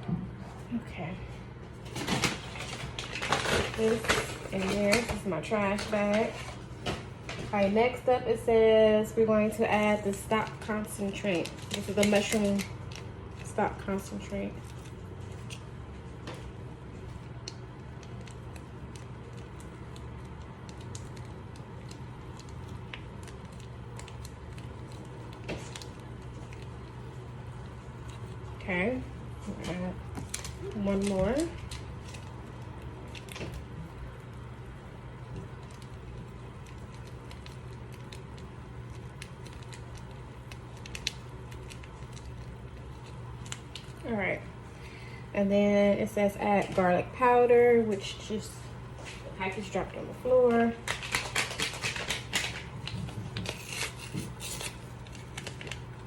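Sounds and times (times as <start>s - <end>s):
steady low stove hum: 0.0s - 56.0s.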